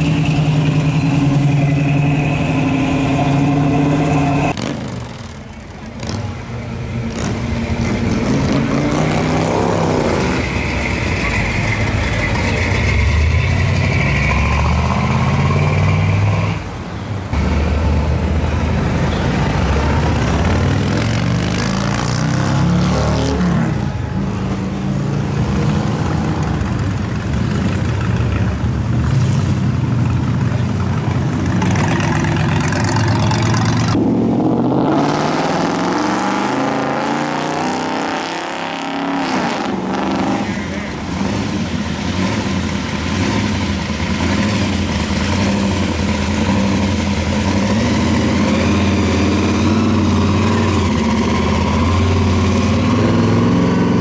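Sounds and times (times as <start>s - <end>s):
loud cars driving past: 0.0s - 54.0s.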